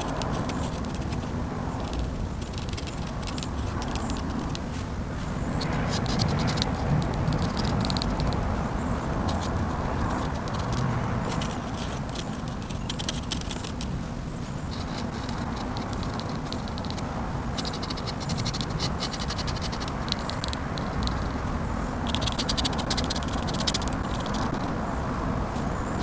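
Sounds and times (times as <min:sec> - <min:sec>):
pen nib scratching paper: 0:00.0 - 0:04.8, 0:05.4 - 0:08.4, 0:09.0 - 0:13.9, 0:14.7 - 0:21.4, 0:22.0 - 0:24.8.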